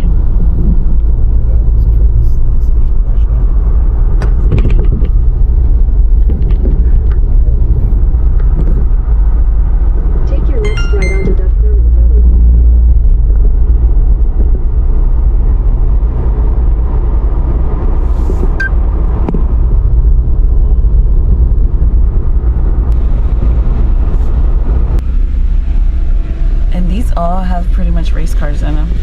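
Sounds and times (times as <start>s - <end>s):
truck cabin road rumble: 0.0s - 29.0s.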